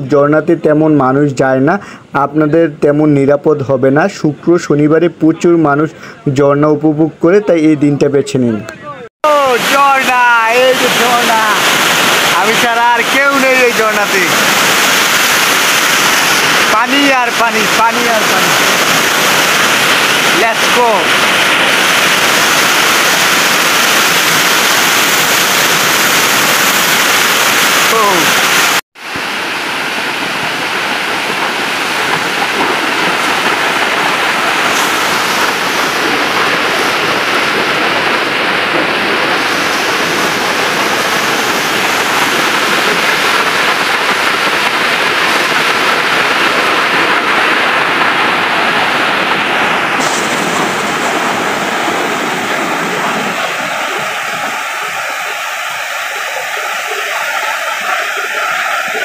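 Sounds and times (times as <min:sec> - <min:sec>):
waterfall rushing over rock: 0:09.2 - 0:59.0.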